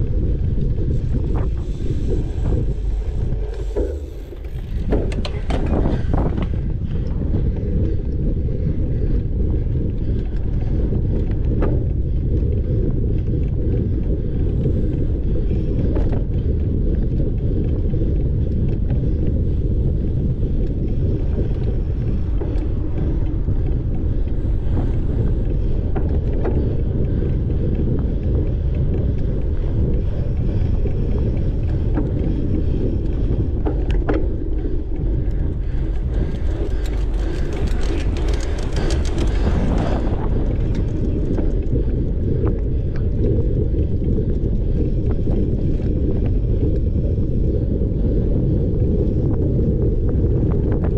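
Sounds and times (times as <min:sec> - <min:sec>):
tyre rumble on dirt track: 0:00.0 - 0:50.9
wind buffeting microphone: 0:00.0 - 0:50.9.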